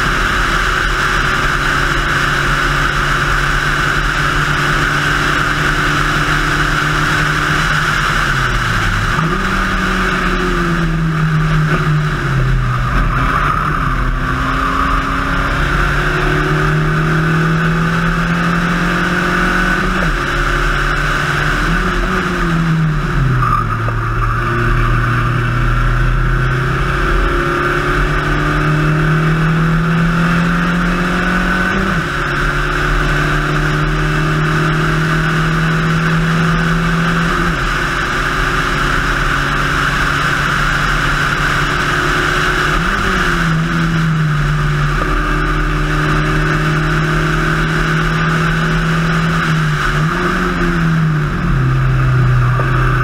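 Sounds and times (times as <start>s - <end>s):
wind and road noise: 0.0s - 53.0s
race car engine shifting gears: 3.2s - 53.0s.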